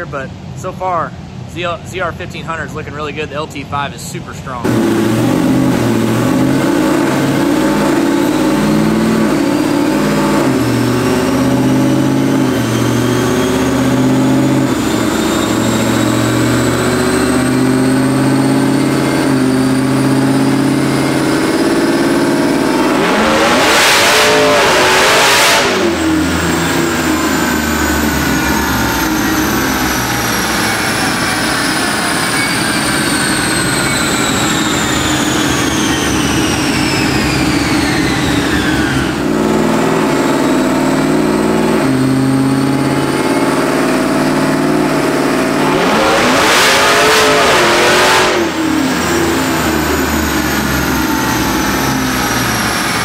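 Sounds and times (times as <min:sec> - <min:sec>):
truck engine whine on dyno: 0:00.0 - 0:53.0.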